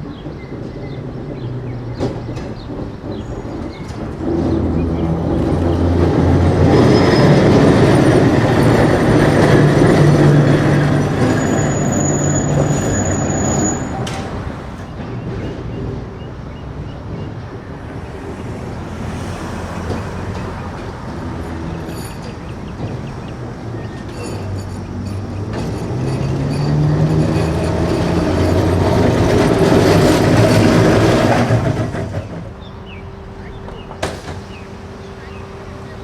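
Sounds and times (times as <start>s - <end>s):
streetcar wheels rumbling on rail: 0.0s - 36.0s.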